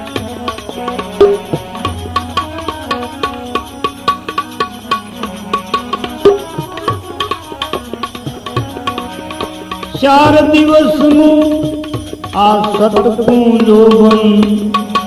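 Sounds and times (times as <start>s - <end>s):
sustained melodic tones: 0.0s - 13.6s
hand drums playing: 0.0s - 15.0s.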